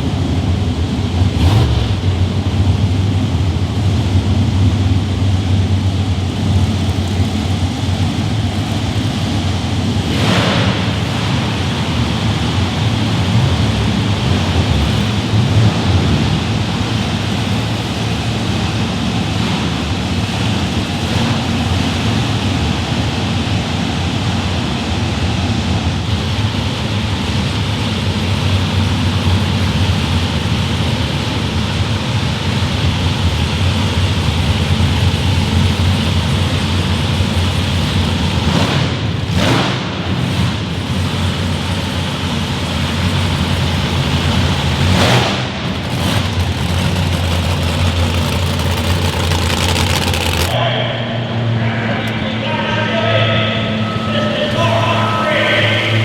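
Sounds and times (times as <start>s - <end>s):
loud vehicle engine running: 0.0s - 56.0s.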